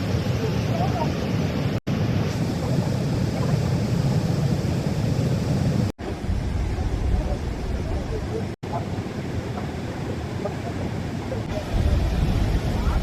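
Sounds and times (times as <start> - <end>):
waterfall rushing: 0.0 - 13.0
wind on microphone: 0.0 - 13.0.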